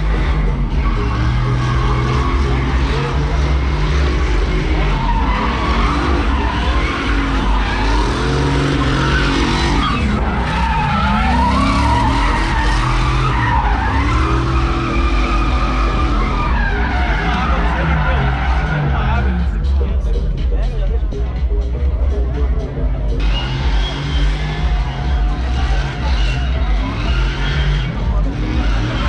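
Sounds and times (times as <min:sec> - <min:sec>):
tyres squealing: 0:00.0 - 0:19.8, 0:23.2 - 0:29.0
car engine revving: 0:00.0 - 0:29.0.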